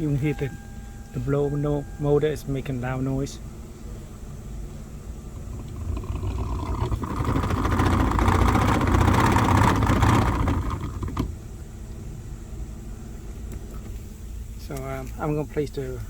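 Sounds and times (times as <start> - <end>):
blower motor rattling whir: 0.0 - 14.7.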